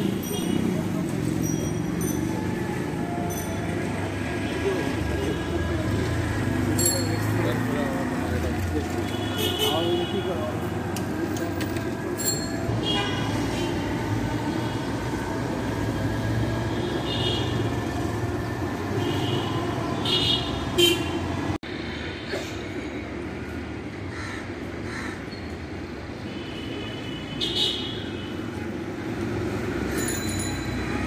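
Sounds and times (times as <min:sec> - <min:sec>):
vehicle engines and traffic passing: 0:00.0 - 0:31.0.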